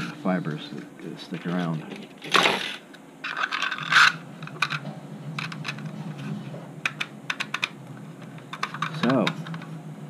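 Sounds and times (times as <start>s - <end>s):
plastic scraping: 1.5s - 9.7s.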